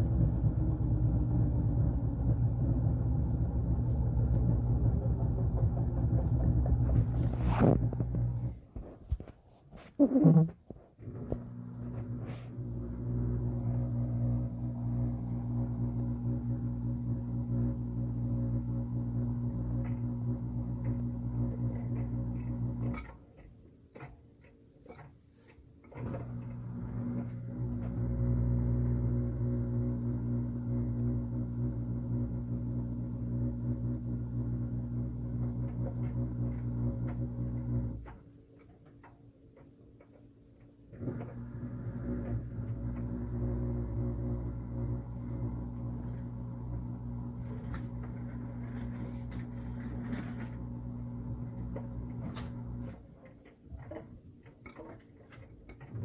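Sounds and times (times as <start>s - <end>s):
washing machine running: 0.0s - 9.3s, 11.0s - 24.2s, 25.8s - 56.0s.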